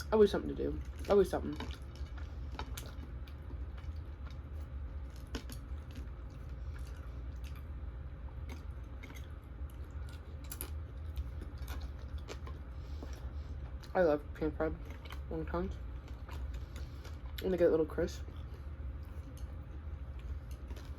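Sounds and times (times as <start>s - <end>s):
steady low hum: 0.0s - 20.9s
person chewing food: 0.7s - 14.0s, 14.7s - 17.5s, 18.2s - 20.9s.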